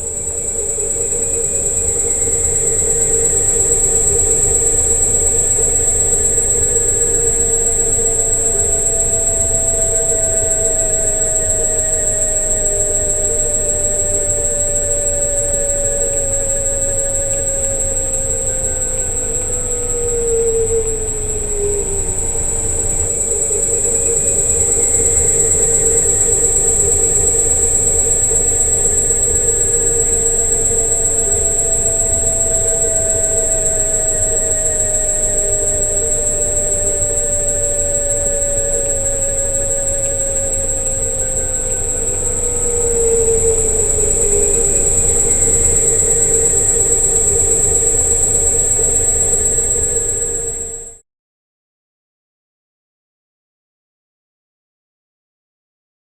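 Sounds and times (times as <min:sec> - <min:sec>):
electric scooter motor whining: 0:00.0 - 0:51.0.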